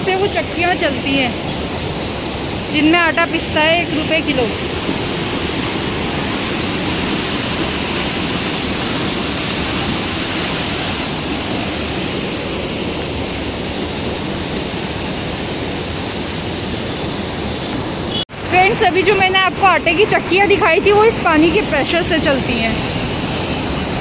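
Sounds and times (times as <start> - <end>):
water rushing through channel: 0.0 - 24.0.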